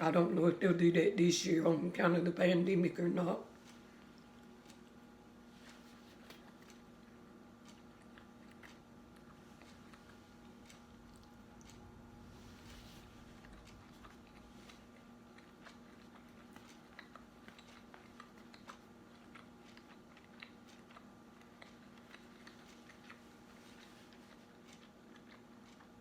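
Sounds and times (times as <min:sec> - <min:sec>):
low steady hum: 0:00.0 - 0:26.0
person chewing: 0:03.5 - 0:26.0.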